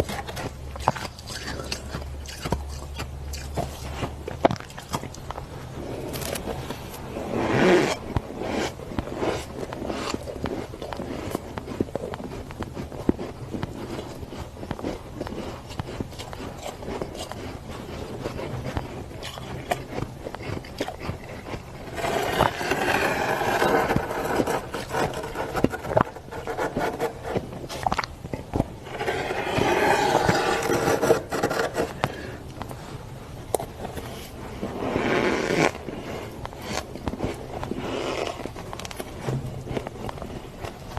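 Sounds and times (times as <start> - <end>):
frost scraping and crunching: 0.0 - 40.9.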